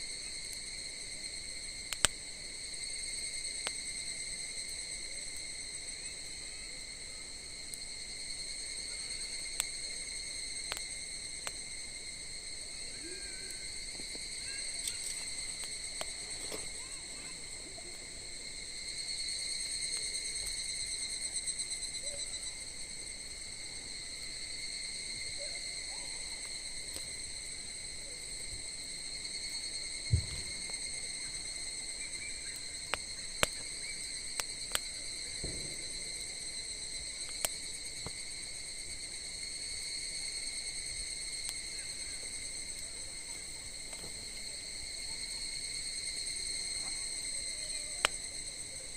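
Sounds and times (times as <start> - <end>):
crickets trilling: 0.0 - 48.9
wood fire popping: 0.0 - 48.9.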